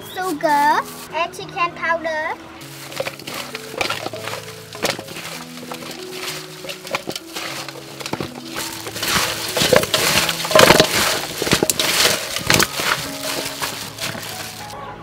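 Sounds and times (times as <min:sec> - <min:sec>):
soft background music: 0:00.0 - 0:15.0
plastic gloves rustling: 0:00.3 - 0:01.1, 0:02.6 - 0:14.8
wet squishing of food mixed by hand: 0:02.6 - 0:14.8.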